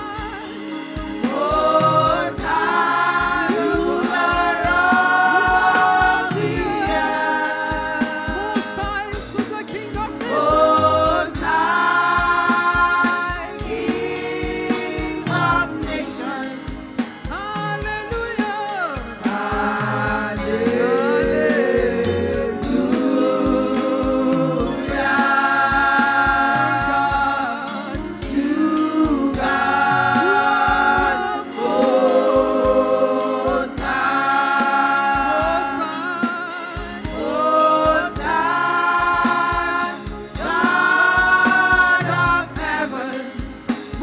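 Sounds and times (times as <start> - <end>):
steady drum beat: 0.0 - 44.0
voices singing together: 0.0 - 44.0.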